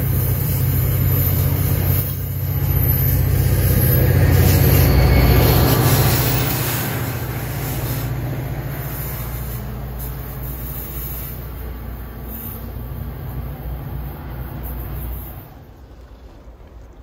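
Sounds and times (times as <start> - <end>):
diesel train engine and rolling: 0.0 - 17.0.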